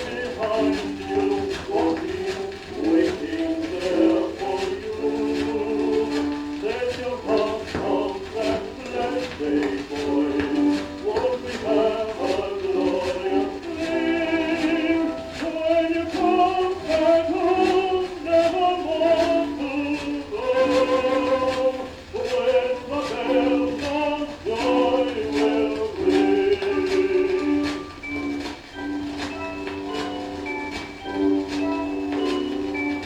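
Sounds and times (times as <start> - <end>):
instrumental accompaniment: 0.0 - 33.0
record surface rumble and hiss: 0.0 - 33.0
tenor singing with vibrato: 0.0 - 33.0.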